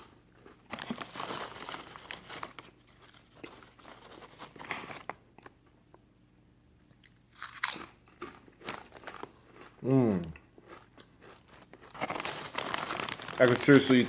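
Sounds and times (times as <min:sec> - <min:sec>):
person chewing crisp chips: 0:00.0 - 0:05.7, 0:06.9 - 0:14.0.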